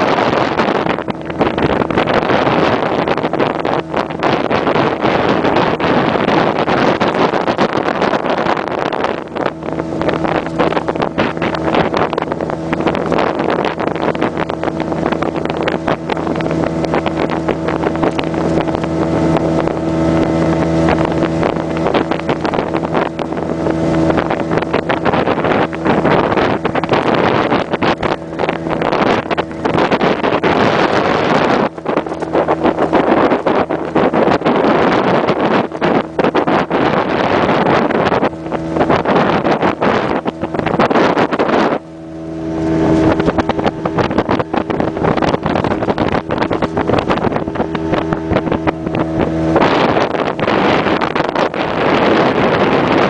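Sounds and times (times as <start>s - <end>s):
outboard motor running: 0.0s - 53.0s
rush of wind and water: 0.0s - 53.0s
wind buffeting microphone: 0.0s - 53.0s.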